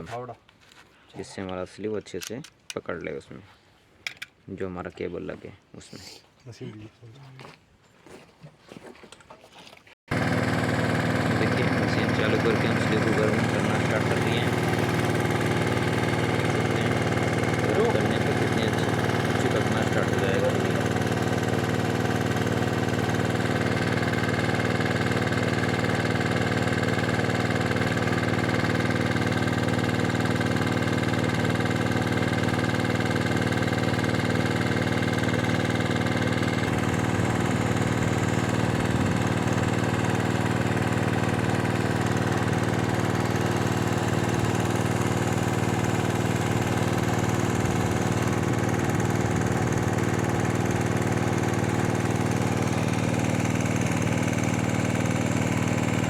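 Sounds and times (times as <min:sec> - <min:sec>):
heat gun motor humming: 0:10.1 - 0:56.0.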